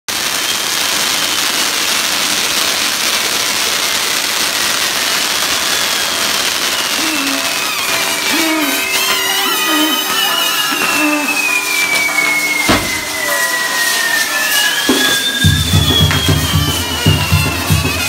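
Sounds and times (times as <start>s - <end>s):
fireworks hissing: 0.1s - 18.0s
fireworks whistle: 0.1s - 18.0s.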